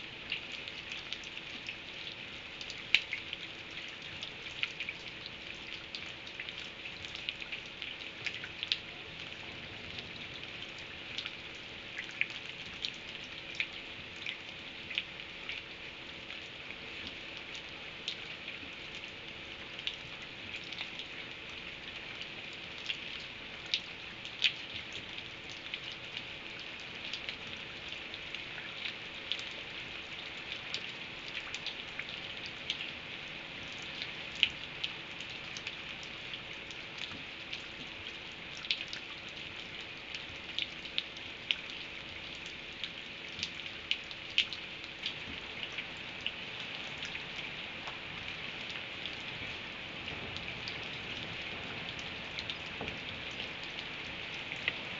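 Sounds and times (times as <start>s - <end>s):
raindrops ticking on a surface: 0.0s - 54.9s
steady rain hiss: 0.0s - 54.9s.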